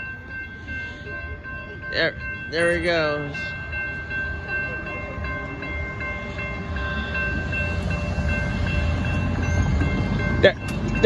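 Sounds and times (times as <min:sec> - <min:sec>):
crossing bell ringing: 0:00.0 - 0:11.0
passenger train rumbling past: 0:00.0 - 0:11.0.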